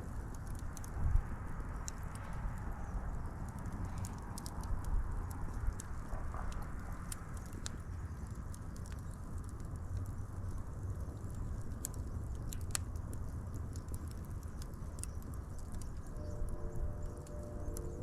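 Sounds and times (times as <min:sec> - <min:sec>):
wood fire pops and snaps: 0:00.0 - 0:16.4
fire low rumble: 0:00.0 - 0:18.0.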